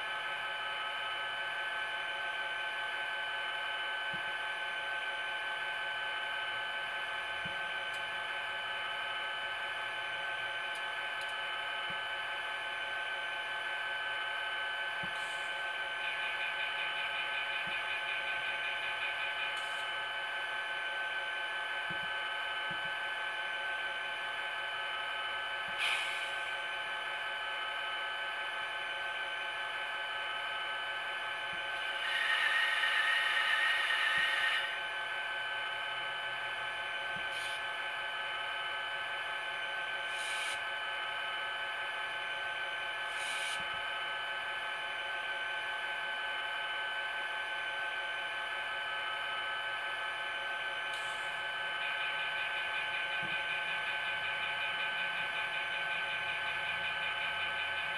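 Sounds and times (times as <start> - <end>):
diesel engine idling through small speaker: 0.0 - 57.9.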